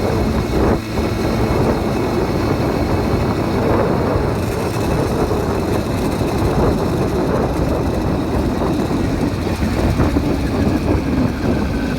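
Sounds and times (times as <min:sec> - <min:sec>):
motorized bicycle engine running: 0:00.0 - 0:11.9.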